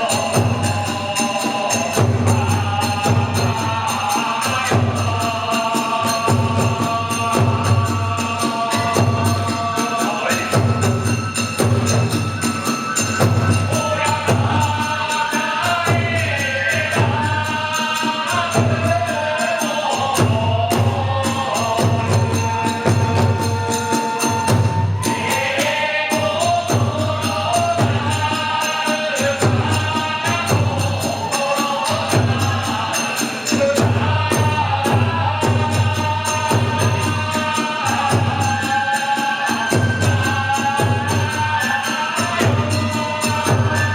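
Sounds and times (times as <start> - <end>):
drum beating steady rhythm: 0.0 - 43.9
metal hand cymbals ringing: 0.0 - 43.9.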